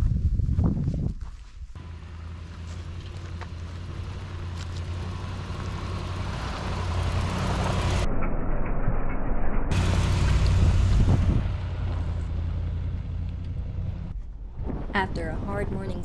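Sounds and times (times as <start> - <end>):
road and tyre noise: 0.0 - 16.0
vehicle engine drone: 1.8 - 16.0.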